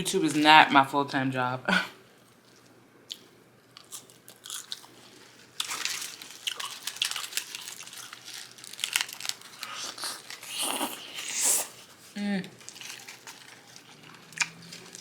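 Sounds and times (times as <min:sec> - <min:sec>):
person chewing crunchy food: 0:02.4 - 0:15.0.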